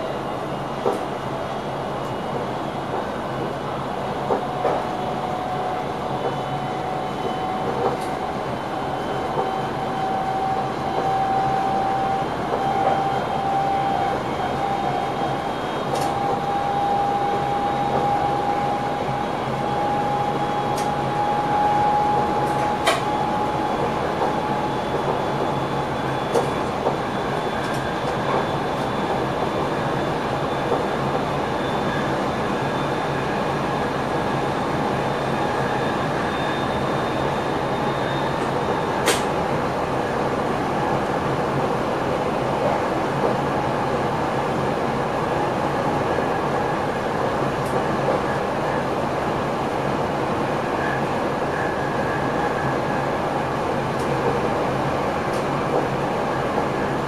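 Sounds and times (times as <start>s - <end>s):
train wheels rumbling on rails: 2.0s - 43.5s, 50.4s - 57.0s.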